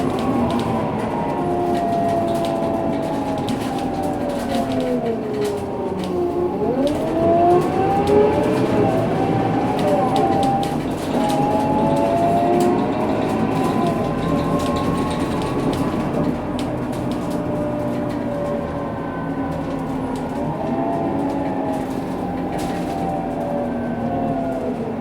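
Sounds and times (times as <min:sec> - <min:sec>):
bus axle whine: 0:00.0 - 0:25.0
bus engine running: 0:00.0 - 0:25.0
road noise: 0:00.0 - 0:25.0.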